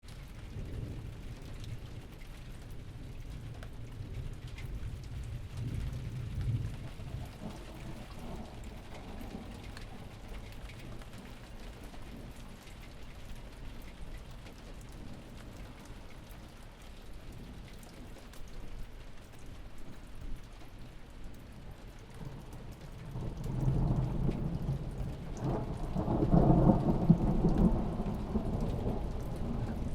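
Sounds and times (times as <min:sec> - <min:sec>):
raindrop ticks: 0:00.0 - 0:29.9
steady rain: 0:00.0 - 0:29.9.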